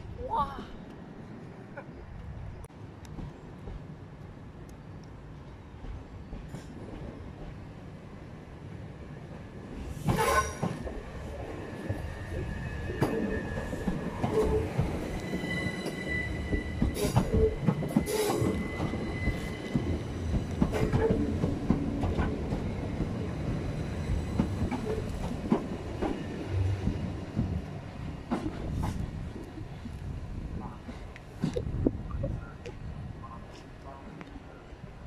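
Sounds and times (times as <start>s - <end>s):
train wheels rumbling on rails: 1.8s - 34.6s.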